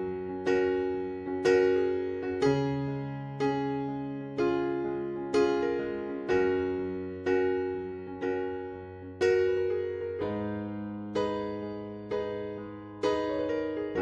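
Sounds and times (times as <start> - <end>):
electric piano slow chords: 0.0 - 14.0.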